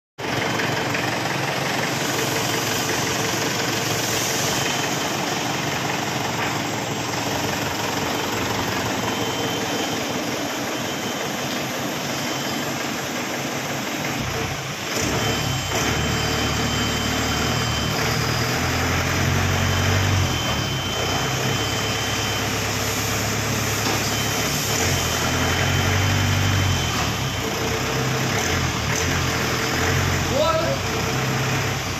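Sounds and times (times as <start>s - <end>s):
jeep engine idling: 0.2s - 31.9s.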